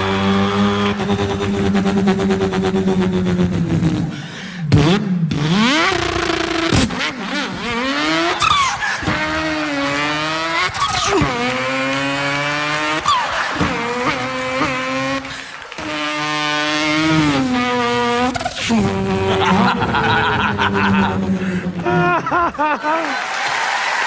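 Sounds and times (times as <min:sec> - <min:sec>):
man imitating car engine revving: 0:00.0 - 0:23.1.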